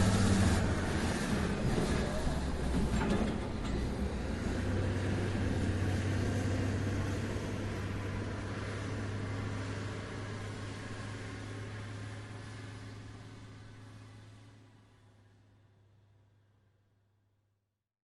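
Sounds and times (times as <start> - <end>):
diesel engine humming: 0.0 - 15.6.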